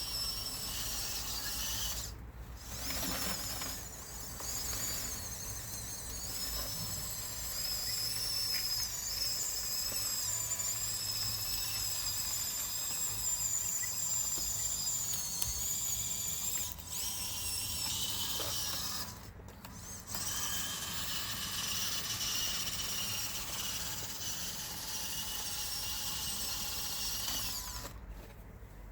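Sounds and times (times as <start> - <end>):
electric motors whining: 0.0 - 28.2.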